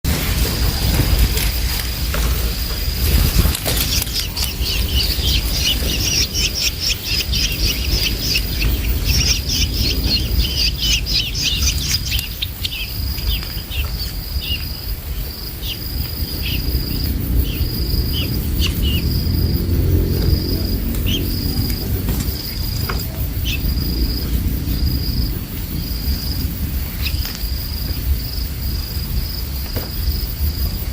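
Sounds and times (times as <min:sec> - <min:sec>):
birds chirping rapidly: 0:00.1 - 0:30.1
high insect trill: 0:00.1 - 0:30.9
low rumble: 0:00.1 - 0:30.9.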